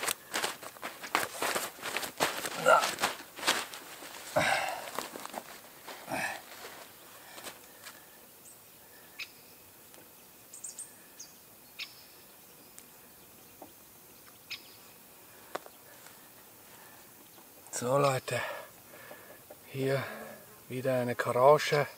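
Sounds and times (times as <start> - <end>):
outdoor hiss: 0.0 - 21.9.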